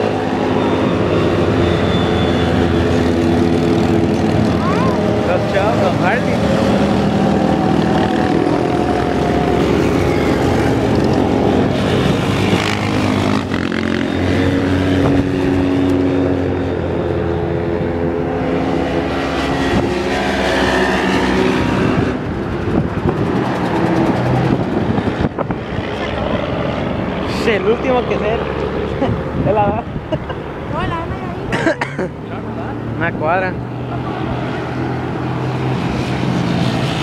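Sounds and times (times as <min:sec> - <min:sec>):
motorcycles riding past: 0:00.0 - 0:37.0.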